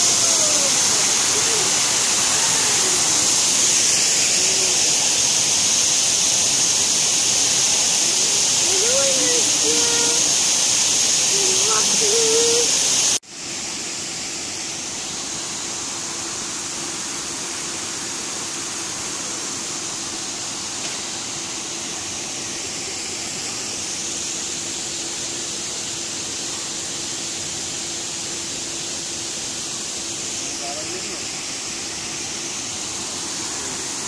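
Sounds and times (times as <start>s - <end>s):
running water rushing: 0.0s - 34.0s.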